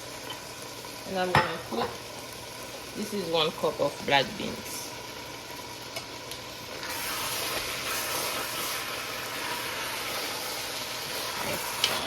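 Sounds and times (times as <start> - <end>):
chili sizzling in a pot: 0.0 - 12.0.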